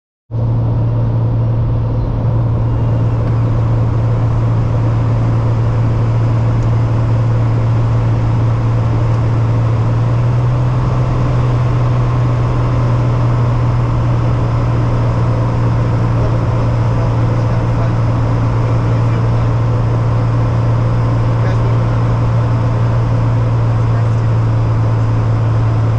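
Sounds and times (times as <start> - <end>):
propeller plane engine droning: 0.3 - 25.9.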